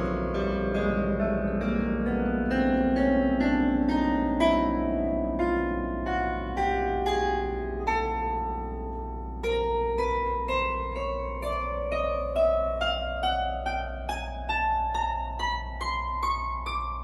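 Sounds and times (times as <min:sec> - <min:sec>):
piano string plucked: 0:00.0 - 0:17.0.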